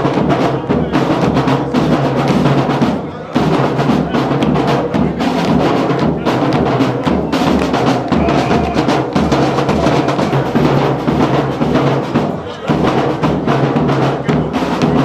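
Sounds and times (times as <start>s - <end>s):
drum-led music with heavy bass: 0.0s - 15.0s.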